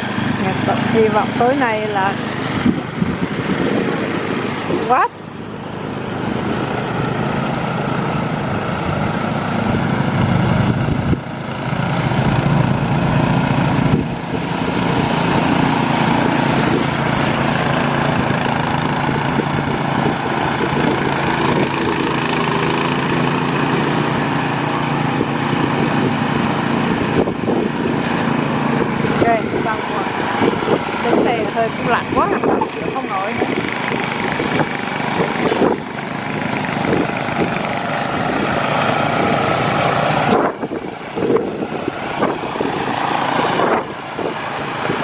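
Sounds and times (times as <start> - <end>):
snowblower engine running: 0.0 - 45.0.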